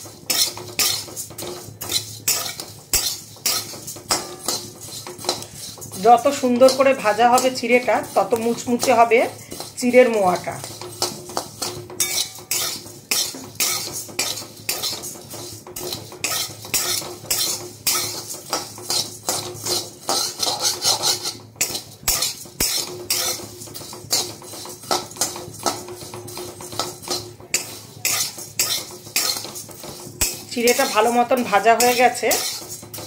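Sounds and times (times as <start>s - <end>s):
dry flakes rattling in pan: 0.0s - 33.0s
spatula scraping metal pan: 0.0s - 33.0s.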